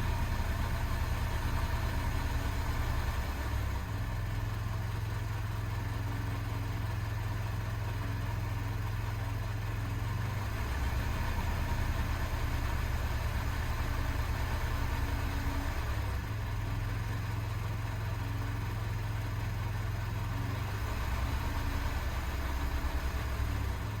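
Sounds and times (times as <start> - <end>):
small car engine idling: 0.0 - 24.0.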